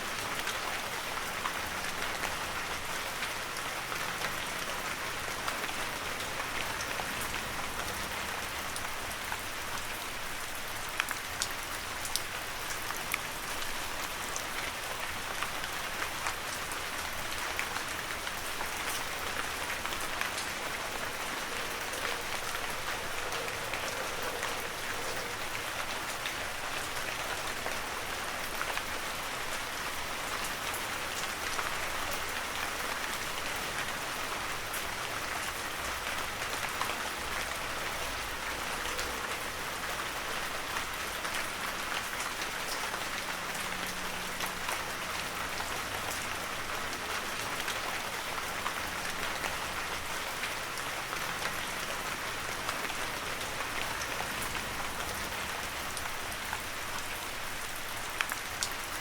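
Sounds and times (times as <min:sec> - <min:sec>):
heavy rain on forest: 0:00.0 - 0:59.0.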